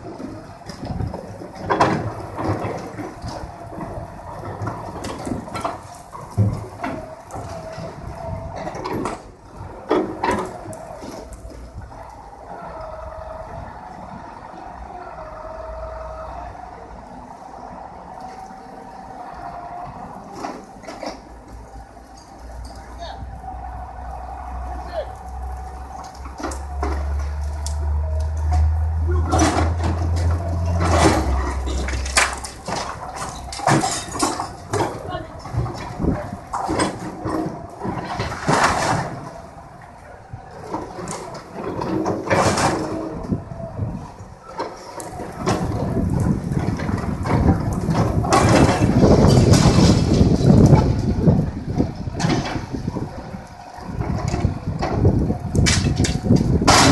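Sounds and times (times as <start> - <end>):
falling debris clattering: 0.0 - 14.5, 23.5 - 56.9
excavator engine and hydraulic whine: 0.0 - 56.9.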